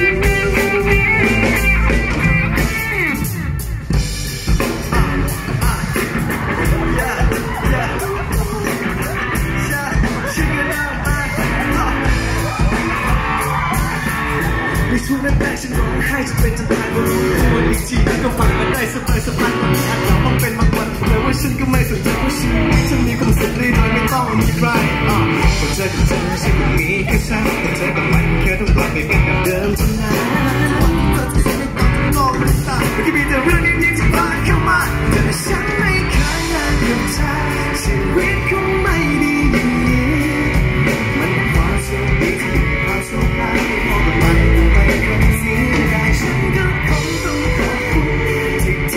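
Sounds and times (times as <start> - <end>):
bass guitar: 0.0 - 48.9
drums: 0.0 - 48.9
keyboard: 0.0 - 48.9
man singing into microphone: 4.6 - 13.8, 14.4 - 48.9.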